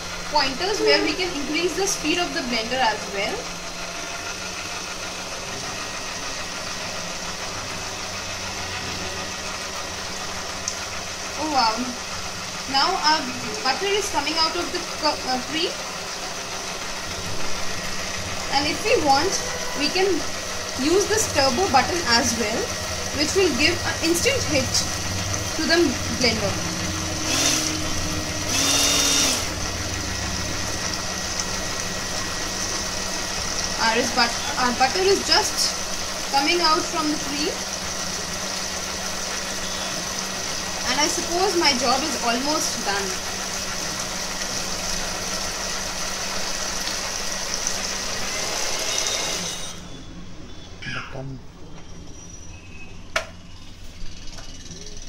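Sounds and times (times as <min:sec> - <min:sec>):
hand mixer motor humming: 0:00.0 - 0:49.9.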